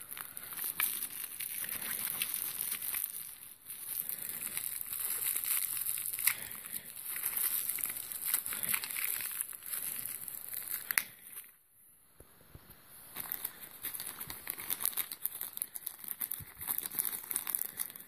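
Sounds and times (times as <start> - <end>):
plastic bag crinkling: 0.0 - 11.6, 13.1 - 18.0.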